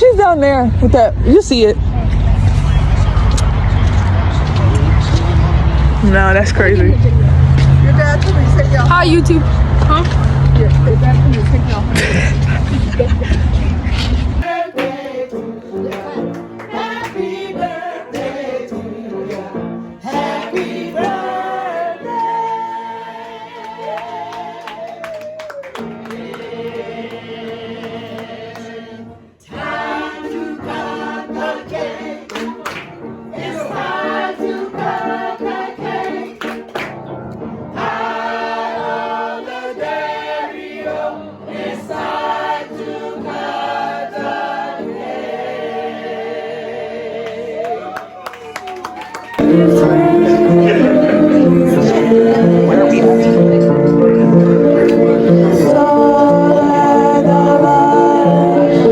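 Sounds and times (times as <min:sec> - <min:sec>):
gospel choir singing: 0:01.8 - 0:48.2, 0:49.3 - 0:58.9.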